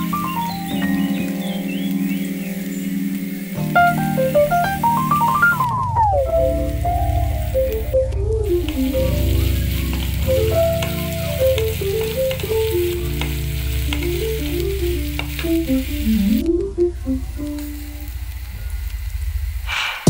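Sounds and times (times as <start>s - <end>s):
onions sizzling in hot oil: 0.0s - 16.5s, 17.1s - 19.6s
background melody: 0.0s - 18.6s.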